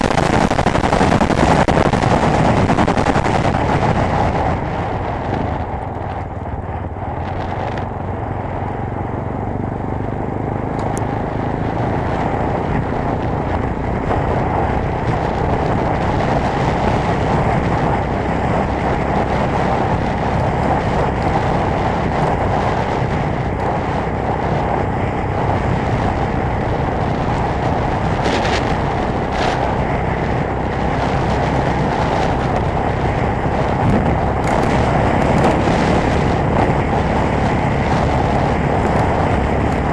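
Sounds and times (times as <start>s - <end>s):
motorcycle engine running hard: 0.0s - 39.9s
wind noise rushing: 0.0s - 39.9s.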